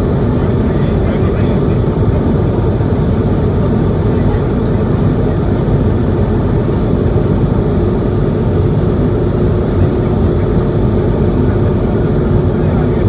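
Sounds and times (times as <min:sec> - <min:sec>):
airplane cabin noise: 0:00.0 - 0:13.0.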